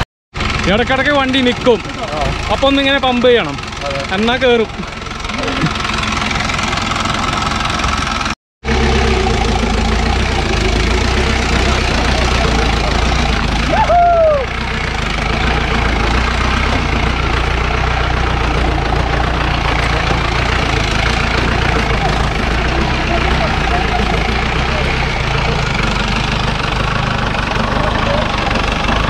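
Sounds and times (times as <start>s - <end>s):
jeep engine running: 0.0s - 29.0s.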